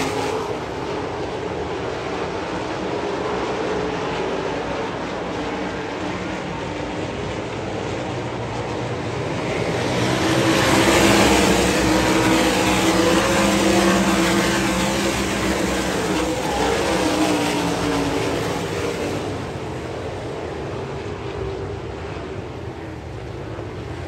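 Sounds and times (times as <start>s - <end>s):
racing car engines passing: 0.0s - 24.0s.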